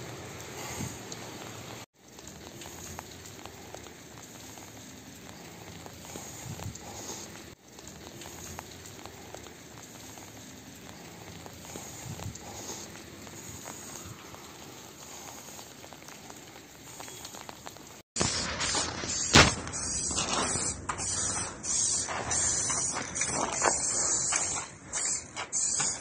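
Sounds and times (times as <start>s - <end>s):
faint crackles and ticks: 0.0s - 26.0s
outdoor background hiss: 0.0s - 26.0s.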